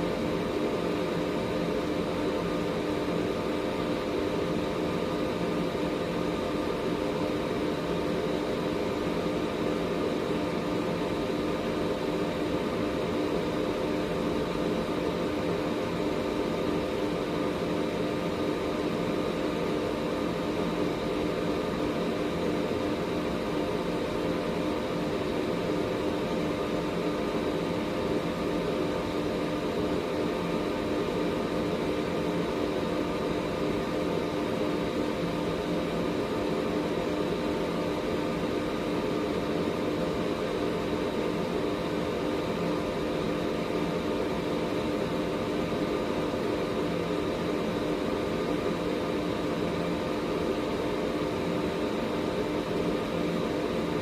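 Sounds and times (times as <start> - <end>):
air purifier fan rushing: 0.0 - 54.0.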